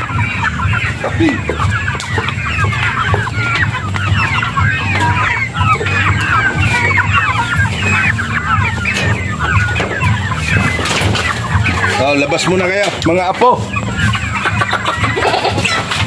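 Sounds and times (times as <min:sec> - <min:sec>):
chickens clucking: 0:00.0 - 0:16.0
steady low hum: 0:00.0 - 0:16.0.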